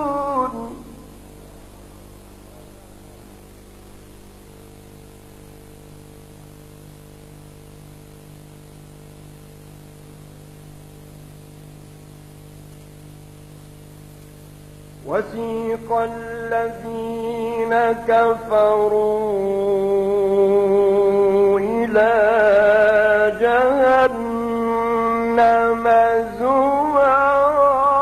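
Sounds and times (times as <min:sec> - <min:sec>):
electrical mains hum: 0:00.0 - 0:28.0
sound system hiss: 0:00.0 - 0:28.0.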